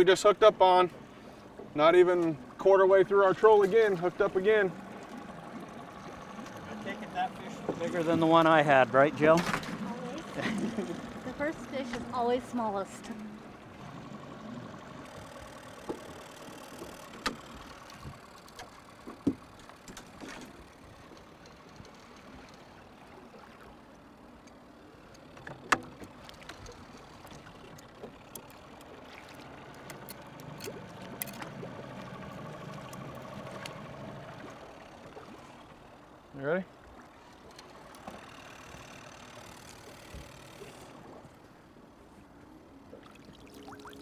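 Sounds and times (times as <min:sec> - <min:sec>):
river water washing: 0:00.0 - 0:22.0, 0:25.6 - 0:42.1, 0:42.8 - 0:44.0
boat motor idling: 0:00.0 - 0:44.0.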